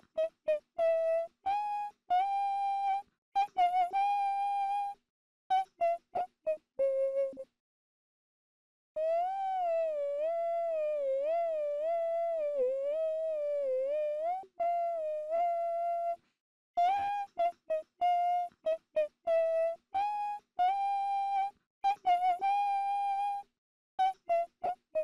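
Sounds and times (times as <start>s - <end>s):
high-pitched voice humming: 0.0s - 7.5s, 9.0s - 16.2s, 16.8s - 25.0s.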